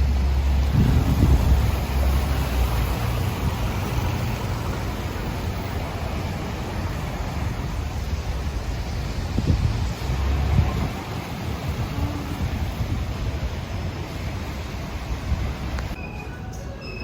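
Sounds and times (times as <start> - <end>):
wind on microphone: 0.0 - 5.0, 7.0 - 16.0
passing vehicles hiss: 0.0 - 17.0.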